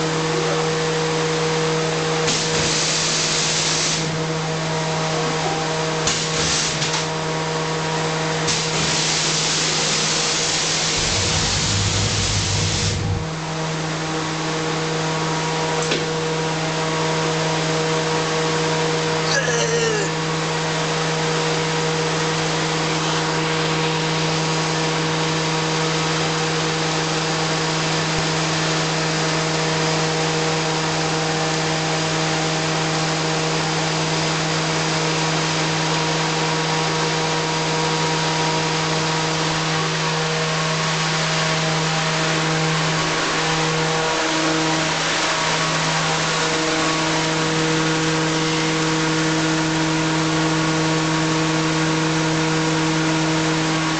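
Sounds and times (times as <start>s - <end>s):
machinery humming: 0.0s - 29.6s, 32.6s - 53.9s.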